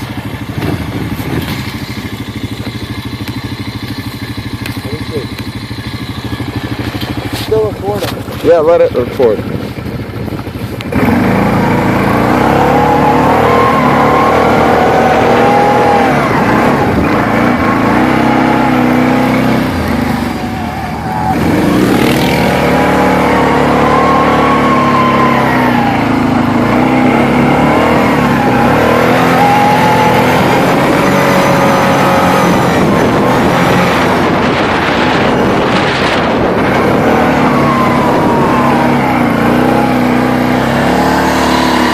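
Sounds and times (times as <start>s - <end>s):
quad engine revving: 0.0s - 41.9s.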